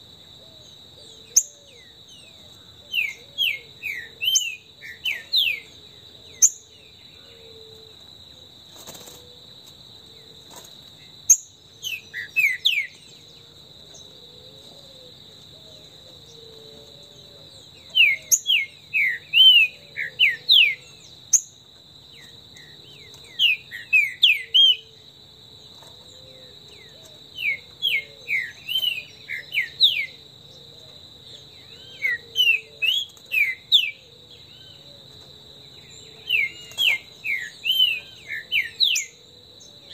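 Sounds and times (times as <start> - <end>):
bird singing: 0.0 - 8.6, 11.0 - 39.9
high insect drone: 0.0 - 39.9.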